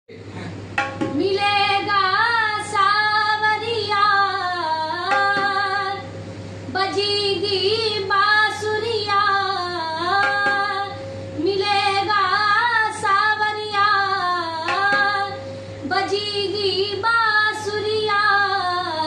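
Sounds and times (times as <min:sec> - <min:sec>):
woman singing devotional song: 0:01.1 - 0:06.1, 0:06.7 - 0:19.0.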